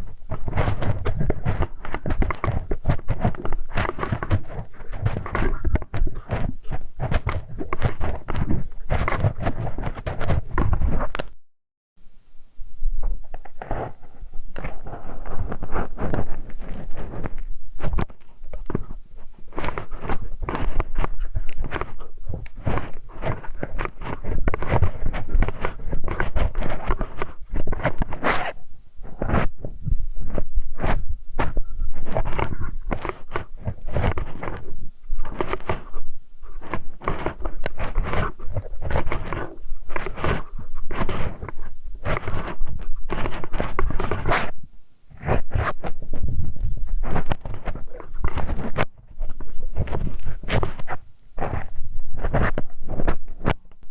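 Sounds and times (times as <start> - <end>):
tool scraping microphone ear: 0.0 - 11.4, 13.0 - 53.9.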